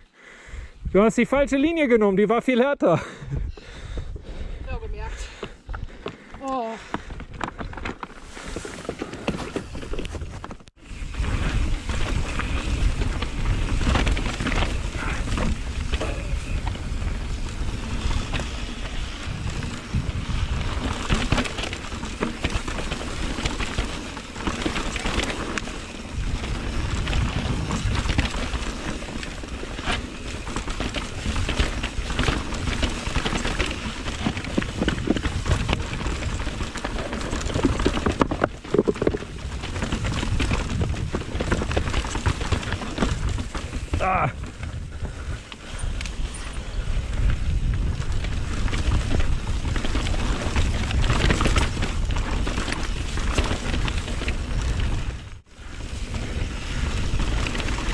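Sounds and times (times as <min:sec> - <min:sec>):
bike tyres clattering over stones: 0:05.2 - 0:57.9
wind buffeting microphone: 0:10.2 - 0:57.9.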